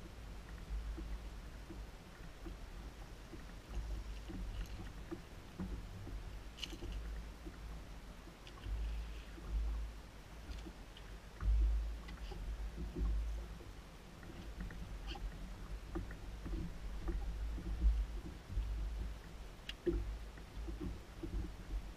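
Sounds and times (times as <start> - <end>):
faint ticks: 0.0 - 9.8, 10.4 - 21.9
waves slapping against boat hull: 0.0 - 21.9
wind rumbling on microphone: 0.0 - 21.9.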